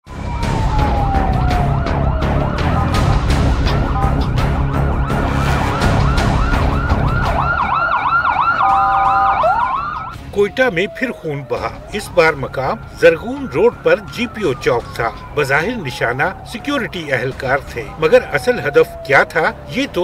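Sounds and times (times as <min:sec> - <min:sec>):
emergency sirens wailing and yelping: 0:00.1 - 0:20.0
street noise rumble: 0:00.1 - 0:20.0
steady multi-tone chord: 0:00.2 - 0:19.6.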